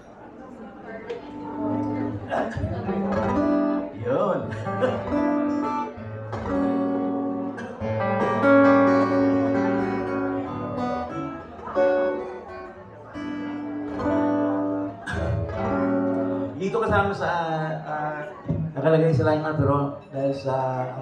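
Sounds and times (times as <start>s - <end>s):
acoustic guitar strumming chords: 1.2s - 21.0s.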